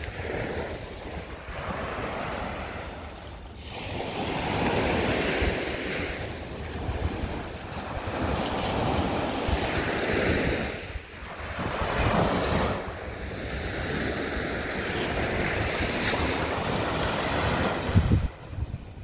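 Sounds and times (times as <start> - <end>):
sea waves breaking on a beach: 0.0 - 19.0
wind buffeting the microphone: 0.0 - 19.0.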